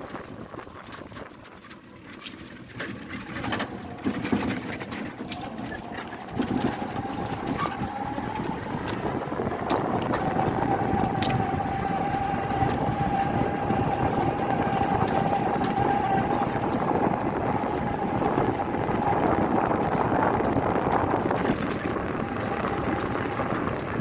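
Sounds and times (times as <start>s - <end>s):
engine running with whine: 0.2s - 24.0s.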